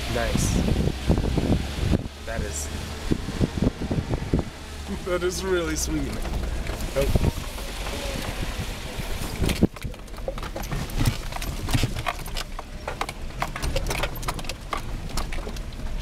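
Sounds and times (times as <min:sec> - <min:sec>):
car body rattling over bumps: 0:00.0 - 0:16.0.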